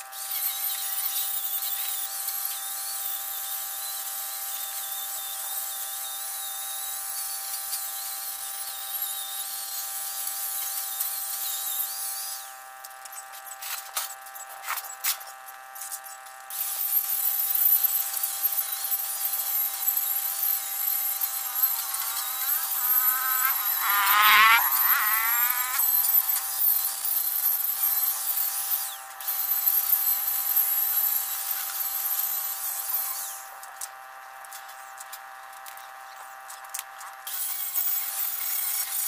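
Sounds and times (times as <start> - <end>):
small electric motor whine: 0.0 - 39.0.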